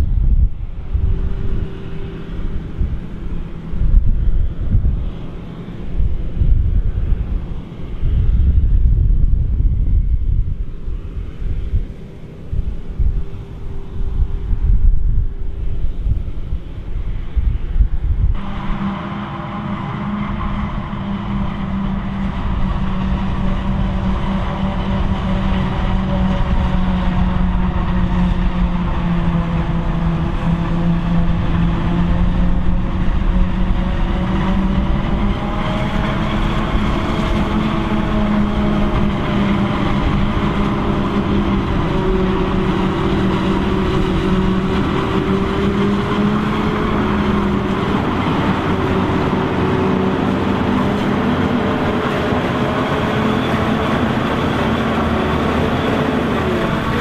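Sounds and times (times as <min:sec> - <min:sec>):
forage harvester droning: 0:00.0 - 0:57.0
tractor running: 0:00.0 - 0:57.0.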